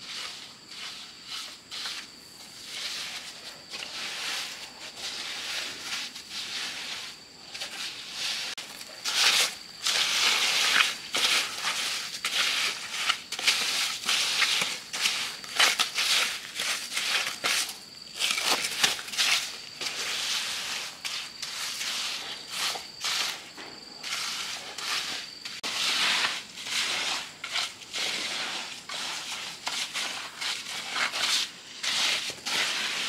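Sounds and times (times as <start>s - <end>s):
gritty scraping and crunching: 0.0s - 33.0s.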